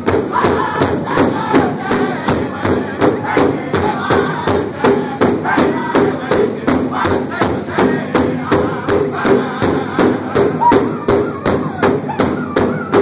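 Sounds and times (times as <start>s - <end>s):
group singing: 0.0s - 13.0s
large drum beaten with sticks: 0.0s - 13.0s.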